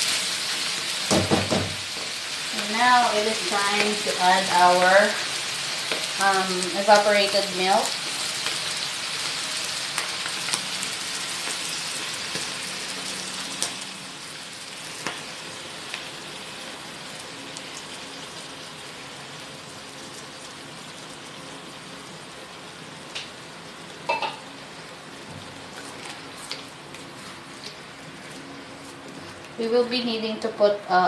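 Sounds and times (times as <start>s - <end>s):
chicken sizzling in a pan: 0.0s - 28.9s.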